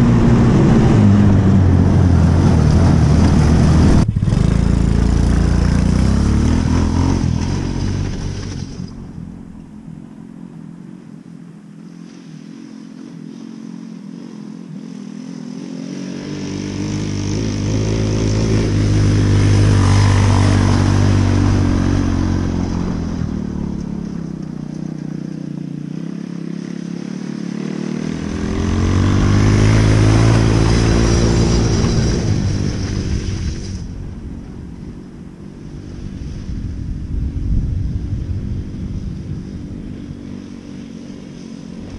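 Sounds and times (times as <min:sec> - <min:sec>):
small jeep engine driving: 0:00.0 - 0:41.9.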